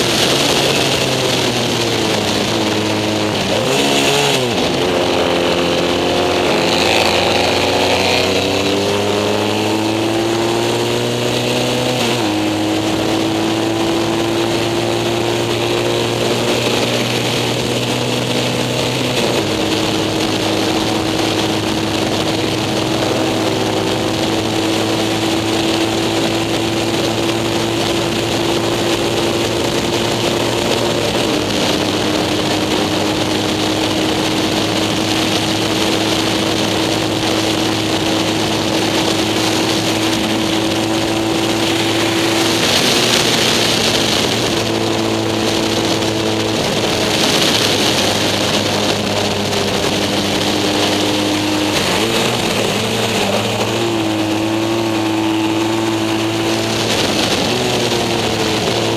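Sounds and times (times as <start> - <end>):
motorcycle engine at full throttle: 0.0 - 58.9
wind rush over microphone: 0.0 - 58.9.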